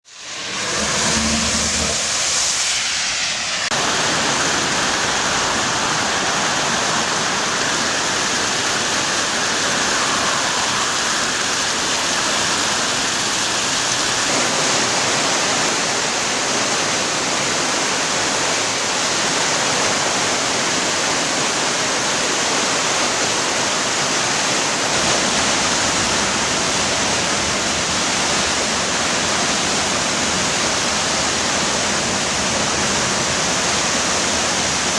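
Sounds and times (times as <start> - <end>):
floodwater rushing: 0.0 - 34.9.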